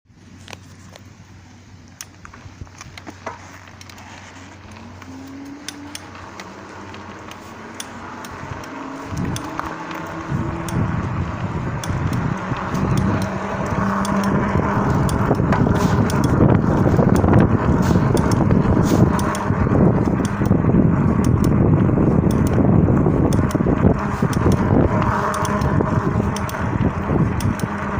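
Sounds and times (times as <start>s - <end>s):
rolling and wind noise: 0.1s - 27.9s
bike crankset clicking: 1.9s - 27.9s
electric motor whine: 3.6s - 27.9s.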